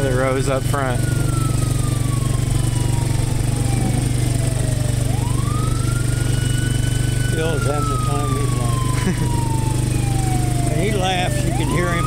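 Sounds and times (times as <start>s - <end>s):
low engine drone: 0.0s - 12.0s
siren-like wailing tone: 0.0s - 12.0s.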